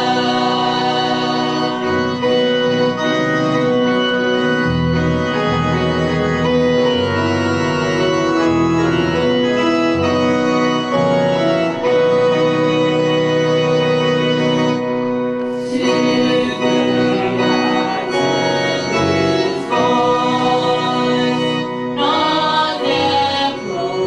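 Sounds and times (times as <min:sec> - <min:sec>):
organ playing hymn chords: 0:00.0 - 0:24.0.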